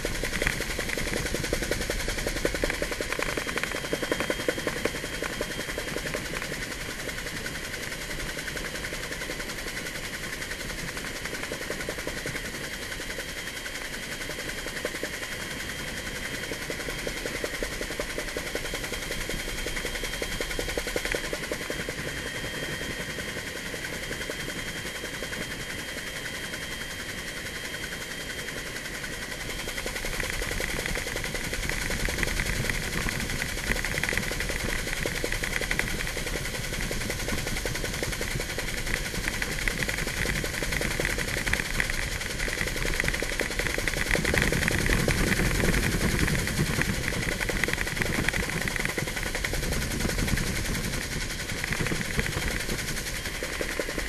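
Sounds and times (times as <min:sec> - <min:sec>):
helicopter rotor blades beating: 0:00.0 - 0:54.0.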